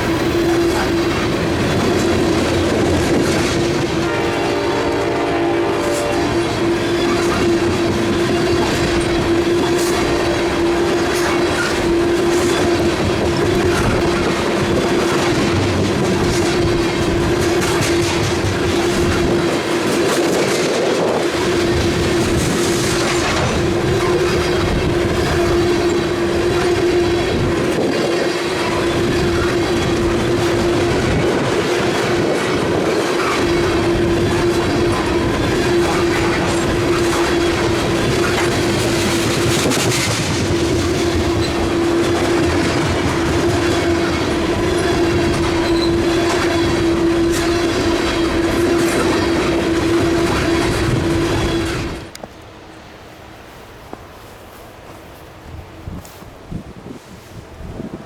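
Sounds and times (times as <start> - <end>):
wheels clicking over rail joints: 5.9 - 52.5.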